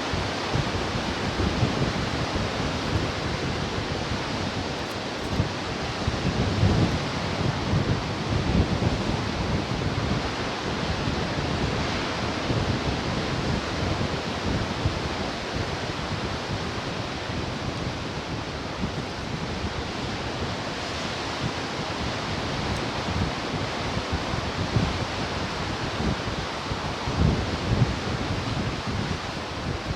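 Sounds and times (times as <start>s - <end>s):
ocean surf washing onto shore: 0.0s - 29.9s
wind buffeting microphone: 0.0s - 29.9s.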